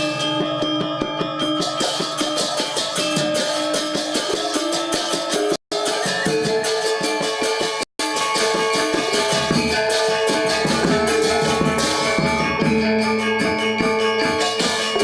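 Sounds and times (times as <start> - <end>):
gamelan ensemble playing: 0.0 - 15.0.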